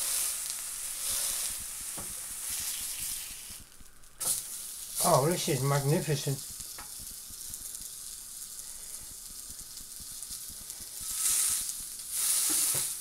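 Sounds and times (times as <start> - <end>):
burger sizzling in a frying pan: 0.0 - 13.0.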